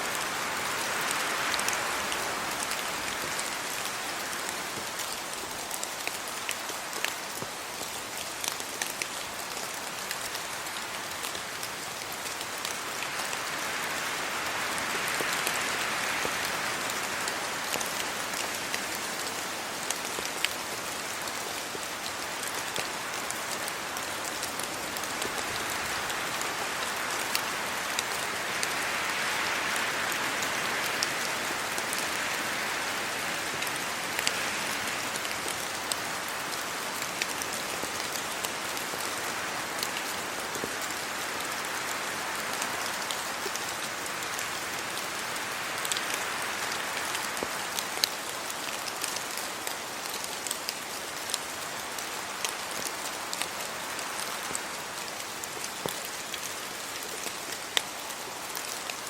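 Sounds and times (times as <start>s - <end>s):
close raindrops pattering: 0.0s - 59.0s
rain falling on leaves: 0.0s - 59.0s
wind gusts through leaves: 0.0s - 59.0s.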